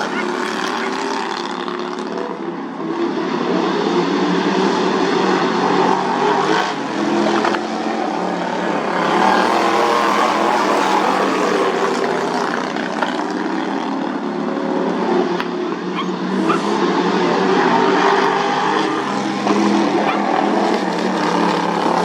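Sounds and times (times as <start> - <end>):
lawn mower engines buzzing: 0.0 - 22.0.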